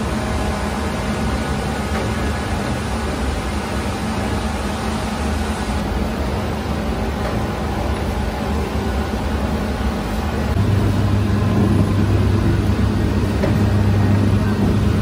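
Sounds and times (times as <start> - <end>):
dough divider machine humming: 0.0 - 15.0.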